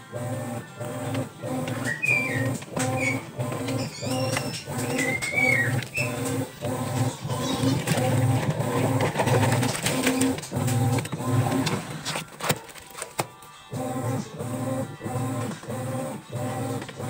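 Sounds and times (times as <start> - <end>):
washing machine motor humming: 0.0 - 12.6, 13.7 - 17.0.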